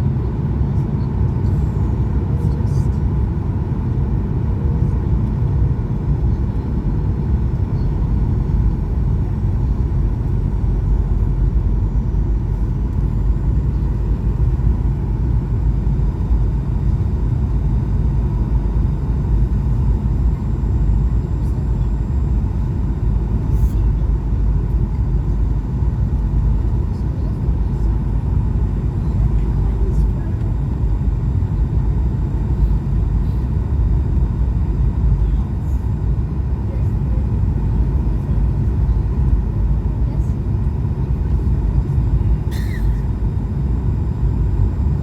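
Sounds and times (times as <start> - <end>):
faint steady whine: 0.0 - 45.0
jet engine cabin rumble: 0.0 - 45.0.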